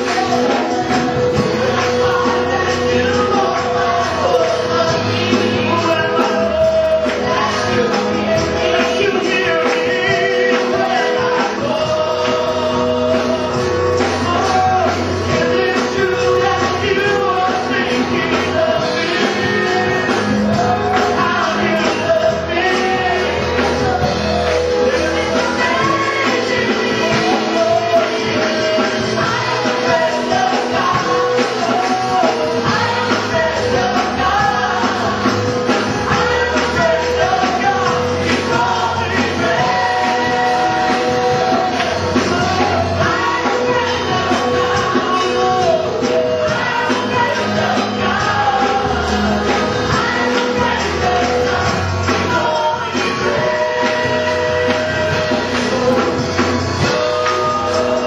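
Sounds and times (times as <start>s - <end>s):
full band playing worship music: 0.0s - 58.0s.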